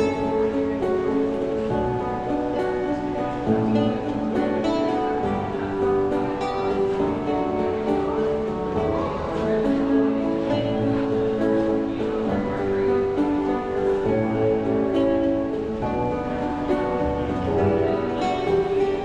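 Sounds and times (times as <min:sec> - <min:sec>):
plucked string instrument melody: 0:00.0 - 0:19.0.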